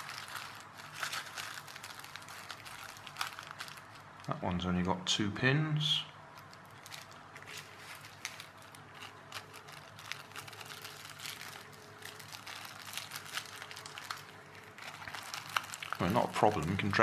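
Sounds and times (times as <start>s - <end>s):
plastic bags crinkling: 0.0s - 4.4s, 6.3s - 17.0s.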